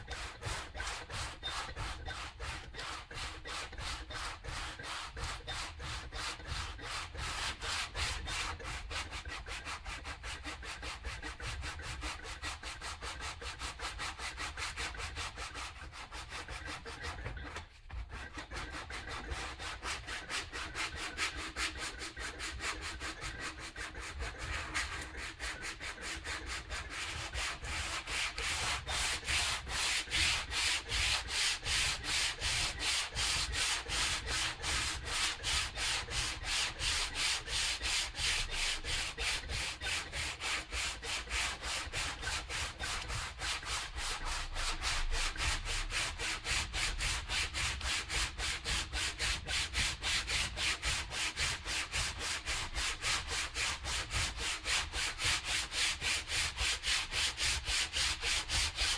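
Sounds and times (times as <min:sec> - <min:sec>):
sandpaper rubbing strokes: 0:00.0 - 0:58.9.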